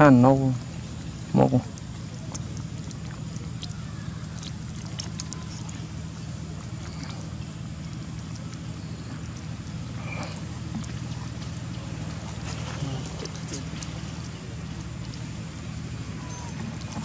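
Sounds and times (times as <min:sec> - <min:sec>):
low motor drone: 0:00.0 - 0:17.0
faint clicks and rustles: 0:00.7 - 0:17.0.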